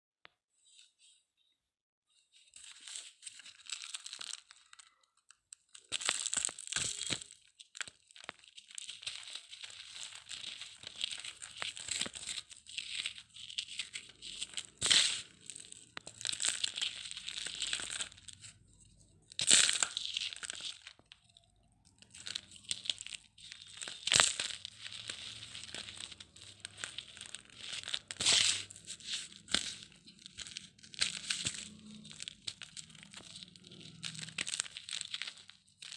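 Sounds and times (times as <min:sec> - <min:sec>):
cement crumbling and crunching: 0:05.6 - 0:35.9.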